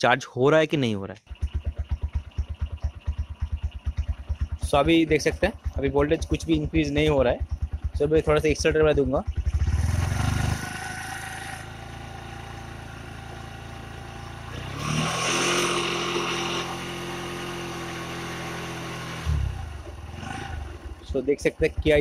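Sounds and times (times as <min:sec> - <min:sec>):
motorcycle engine running and revving: 0:01.3 - 0:22.0.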